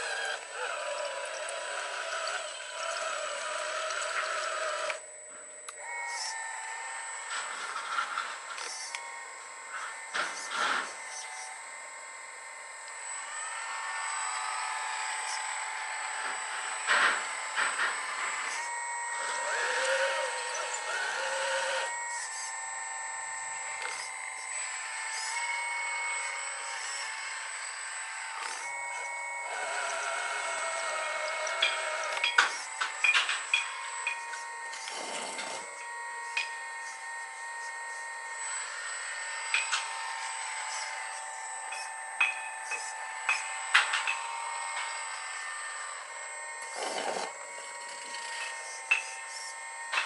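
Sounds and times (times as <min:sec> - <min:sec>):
hydraulic pump whine: 0:00.0 - 0:50.0.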